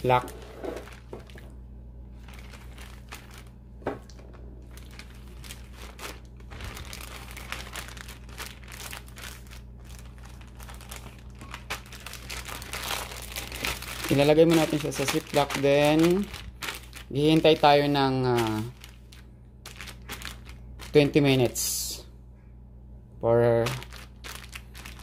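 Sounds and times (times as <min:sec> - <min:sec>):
plastic bag crinkling: 0:00.0 - 0:21.8, 0:23.6 - 0:25.0
steady low hum: 0:00.0 - 0:25.0.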